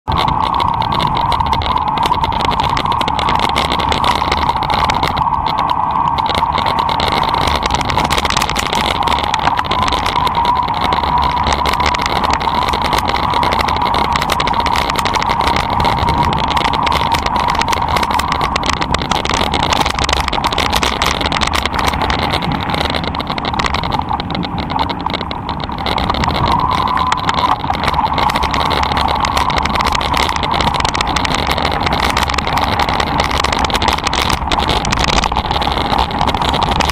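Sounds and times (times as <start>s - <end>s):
bike rattling: 0.0s - 36.9s.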